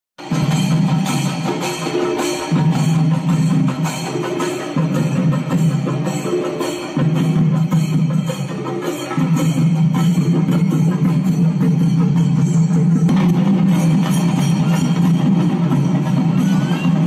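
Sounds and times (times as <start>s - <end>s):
steady percussive beat: 0.2s - 17.0s.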